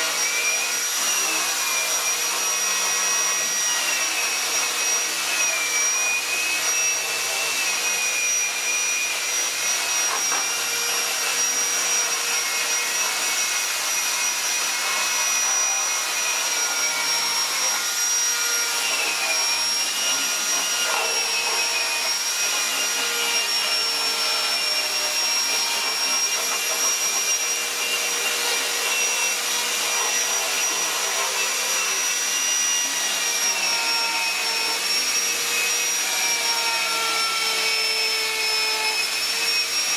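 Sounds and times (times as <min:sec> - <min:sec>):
rotary tool grinding wood: 0:00.0 - 0:39.9.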